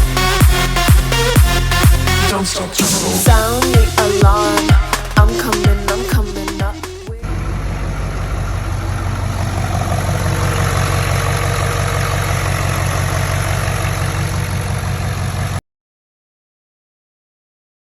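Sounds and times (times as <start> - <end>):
diesel engine idling: 0.0 - 15.6.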